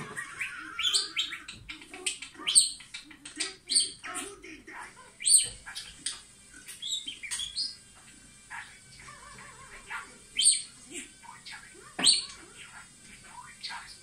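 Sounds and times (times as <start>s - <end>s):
budgerigar warbling: 0.0s - 7.8s, 8.4s - 14.0s.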